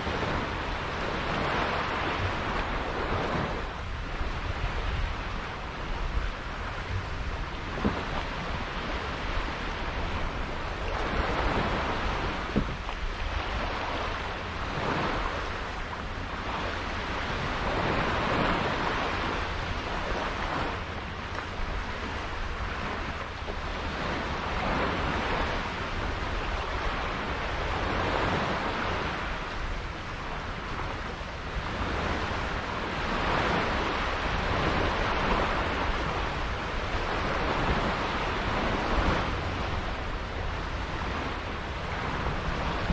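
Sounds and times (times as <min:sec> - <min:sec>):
sea water rushing and splashing: 0:00.0 - 0:42.9
wind rumbling on microphone: 0:00.0 - 0:42.9.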